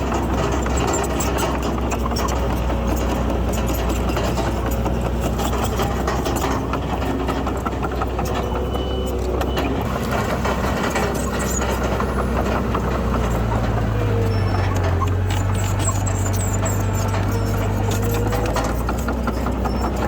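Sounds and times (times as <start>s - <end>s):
diesel machinery engine running: 0.0s - 20.0s
metallic clanking and knocks: 0.0s - 20.0s.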